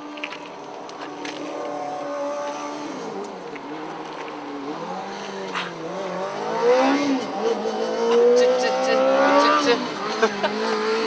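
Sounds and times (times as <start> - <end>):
racing car engine revving: 1.2 - 11.0.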